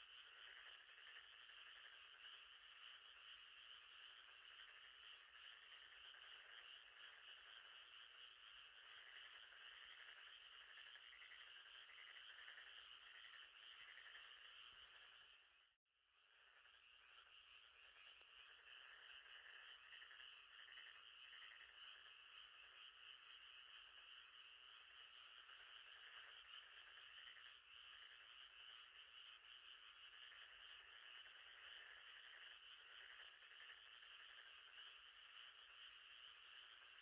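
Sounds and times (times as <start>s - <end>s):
frogs calling: 0.0s - 15.7s, 16.3s - 37.0s.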